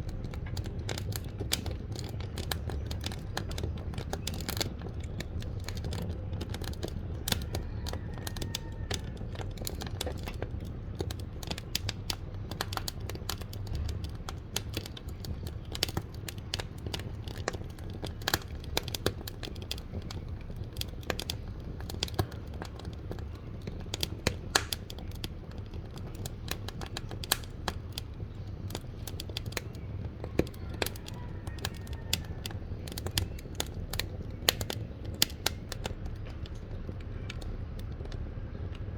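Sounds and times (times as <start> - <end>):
low steady rumble: 0.0 - 38.9
wood fire crackling and popping: 0.0 - 38.9.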